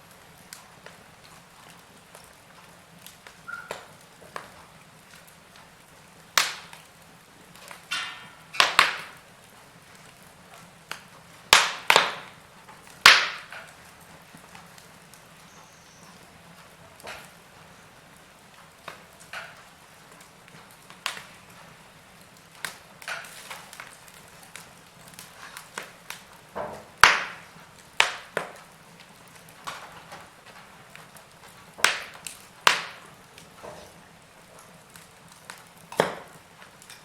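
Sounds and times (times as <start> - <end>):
faint steady hiss: 0.0 - 37.0
wood fire crackling and popping: 0.0 - 37.0.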